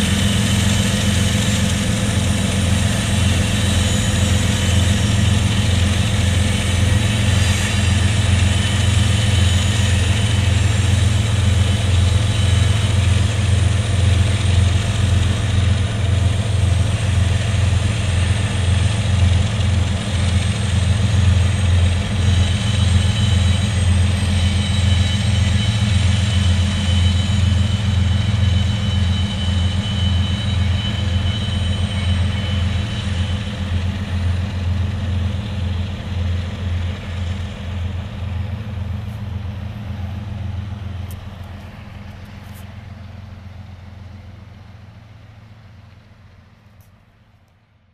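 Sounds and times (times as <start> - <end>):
diesel locomotive engine running: 0.0 - 47.9.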